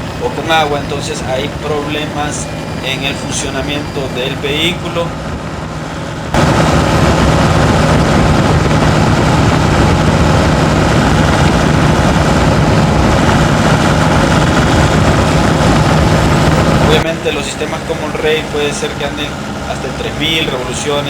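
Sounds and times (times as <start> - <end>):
diesel engine drone: 0.0 - 21.0
road and wind noise: 0.0 - 21.0
turbo whine: 0.0 - 21.0.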